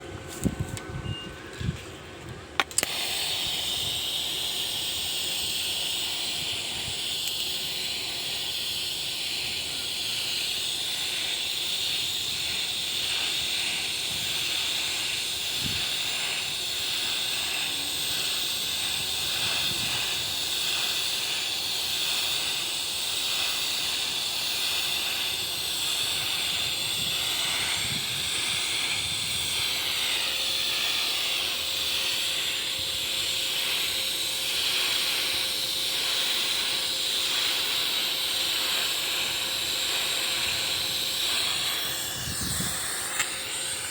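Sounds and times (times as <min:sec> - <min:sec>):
welding arc hissing: 0:02.6 - 0:43.9.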